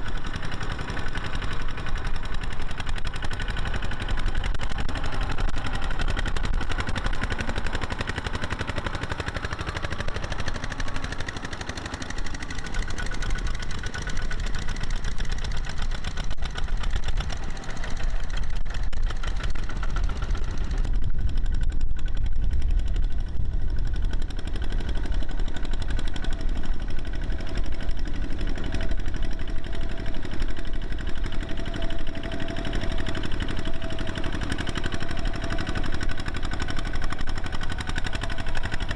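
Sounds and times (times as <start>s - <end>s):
diesel tractor engines chugging: 0.0s - 38.9s.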